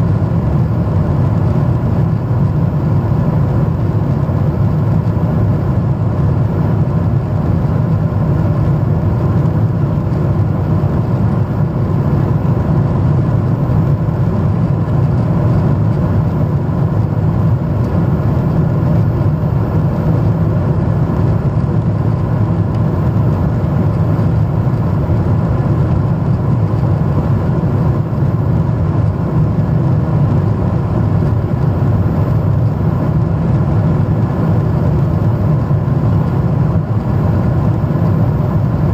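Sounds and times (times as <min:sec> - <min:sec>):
faint steady whine: 0:00.0 - 0:38.9
jet airliner cabin rumble: 0:00.0 - 0:38.9.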